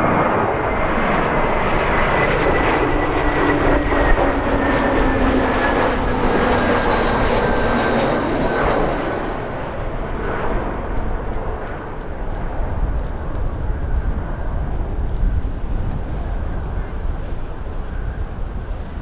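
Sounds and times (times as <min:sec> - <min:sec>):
jet airliner engine rush: 0:00.0 - 0:19.0.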